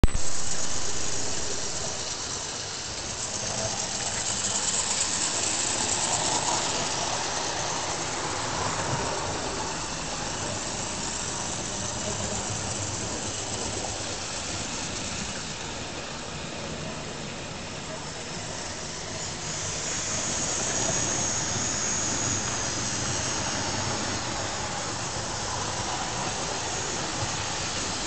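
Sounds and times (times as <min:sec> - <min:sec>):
model train motor whirring: 0:00.0 - 0:28.0
model train wheels on rails: 0:00.0 - 0:28.0.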